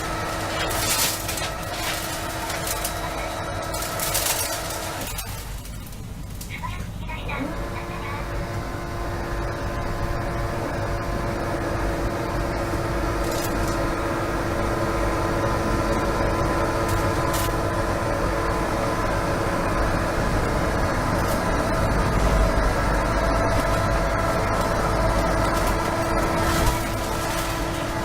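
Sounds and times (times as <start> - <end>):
electric motor humming: 0.0 - 6.0, 7.3 - 28.0.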